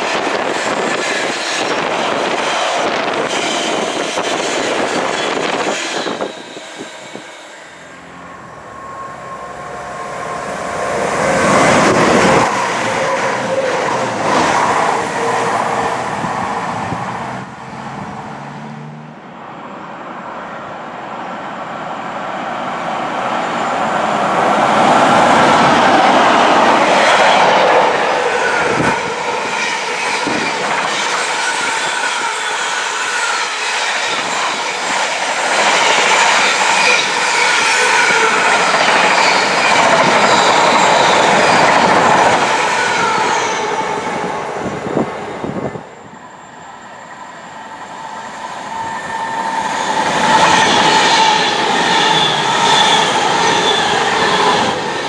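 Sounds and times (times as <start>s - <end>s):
diesel train passing: 0.0s - 55.0s.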